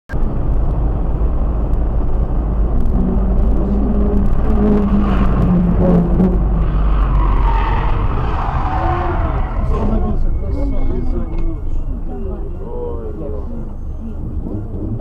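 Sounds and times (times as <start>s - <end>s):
vehicle engine and road rumble: 0.1s - 15.0s.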